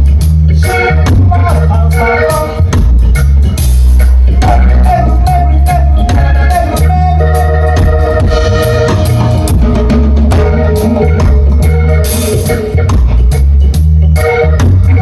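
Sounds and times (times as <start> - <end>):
deep bass: 0.0 - 15.0
drum kit: 0.0 - 15.0
organ chords: 0.0 - 15.0.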